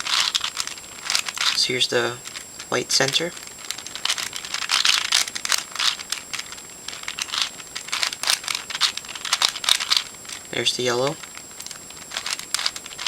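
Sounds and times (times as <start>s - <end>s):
puzzle cube clicking: 0.0s - 13.0s.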